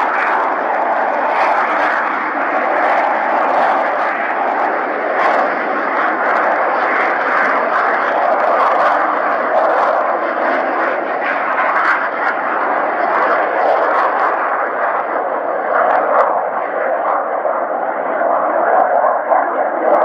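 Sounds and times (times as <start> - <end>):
aircraft engine running: 0.0 - 20.0.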